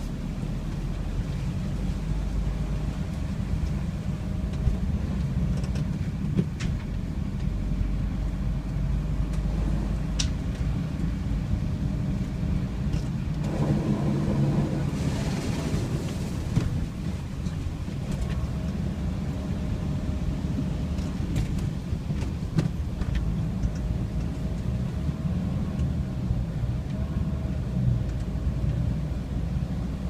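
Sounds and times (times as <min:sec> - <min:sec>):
car engine rumbling: 0:00.0 - 0:30.0
tyres rushing through water: 0:00.0 - 0:30.0.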